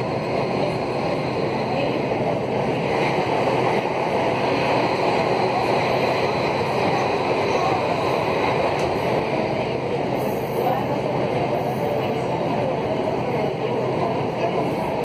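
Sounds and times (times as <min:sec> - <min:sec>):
metro car ride noise: 0:00.0 - 0:15.0
train passing alongside: 0:00.0 - 0:15.0.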